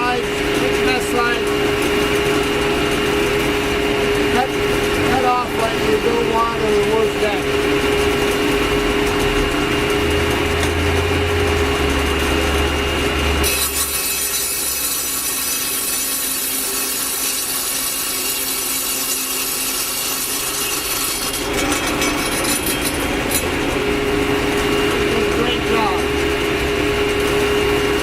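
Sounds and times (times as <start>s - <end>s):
saw grinding through brick: 0.0s - 26.2s
power saw whining: 0.0s - 28.0s.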